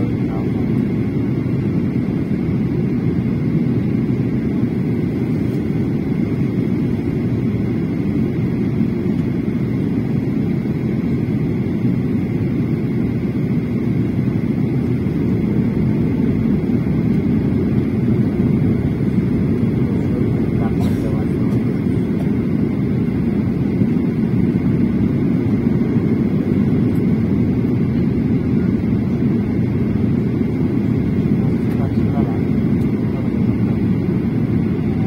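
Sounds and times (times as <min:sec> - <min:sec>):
jet engine cabin rush: 0:00.0 - 0:35.0.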